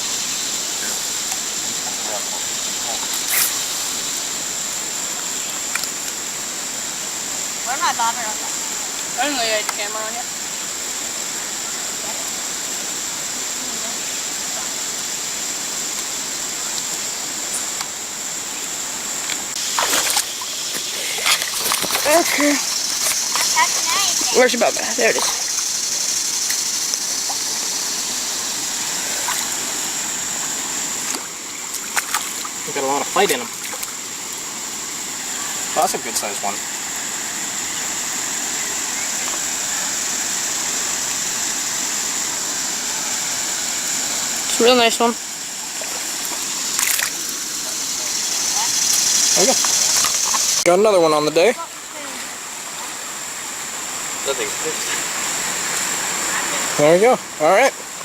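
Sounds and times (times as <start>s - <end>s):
creek water flowing: 0.0s - 58.0s
high-pitched hiss: 0.0s - 58.0s.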